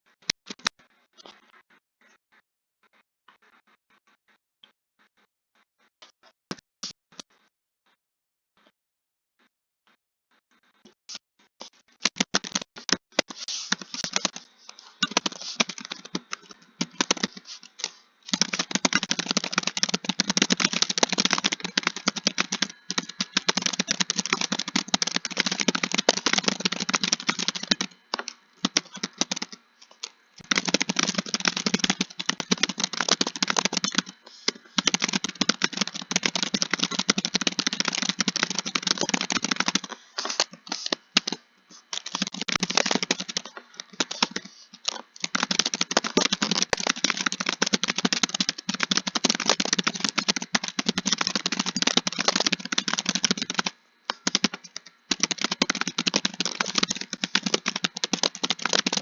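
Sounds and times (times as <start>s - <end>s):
rapid keyboard typing: 11.6s - 59.0s.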